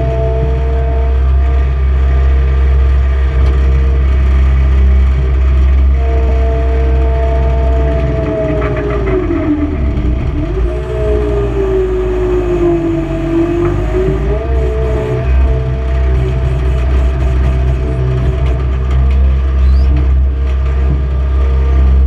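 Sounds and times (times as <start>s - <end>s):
hydraulic whine: 0.0s - 22.0s
loader engine rumble: 0.0s - 22.0s.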